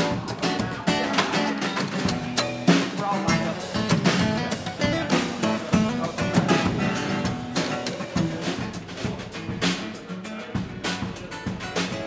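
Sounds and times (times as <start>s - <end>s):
acoustic guitar: 0.0s - 12.0s
drum kit beat: 0.0s - 12.0s.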